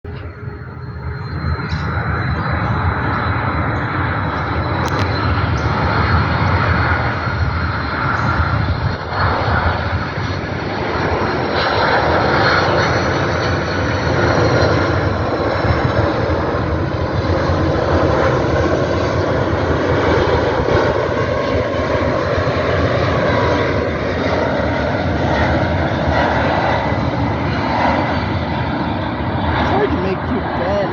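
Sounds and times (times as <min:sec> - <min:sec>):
jet airliner engines rumbling: 0:00.0 - 0:30.9.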